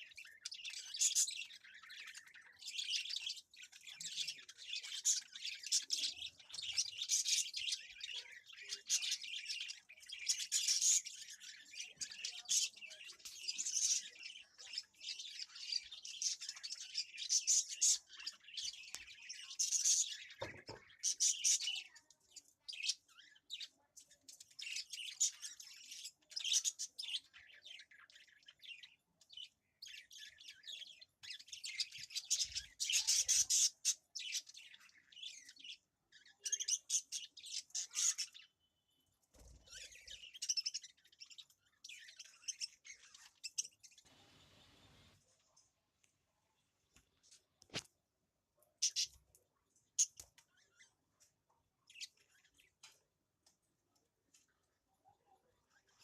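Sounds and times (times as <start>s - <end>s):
birds chirping: 0.0s - 45.8s, 48.6s - 56.0s.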